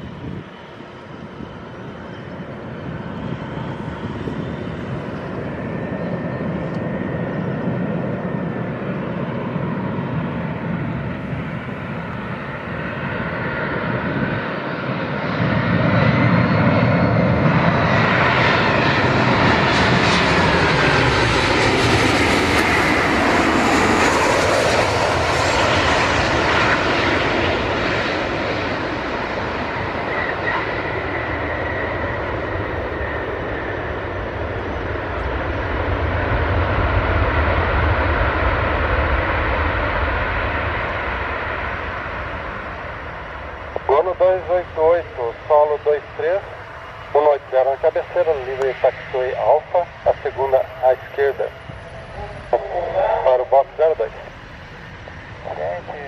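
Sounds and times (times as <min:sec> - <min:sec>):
jet engine rumble and whine: 0:00.0 - 0:56.0.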